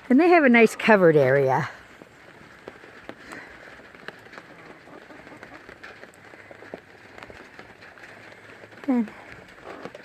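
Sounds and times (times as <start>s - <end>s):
raindrops tapping surface: 1.3s - 10.0s
steady rain: 1.7s - 10.0s.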